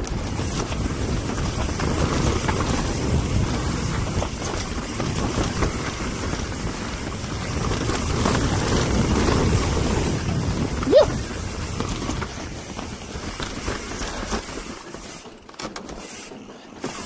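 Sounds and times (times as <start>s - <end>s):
wind buffeting microphone: 0.0s - 14.8s
bike rattling: 0.0s - 17.0s
tyres rumbling on dirt trail: 0.0s - 17.0s.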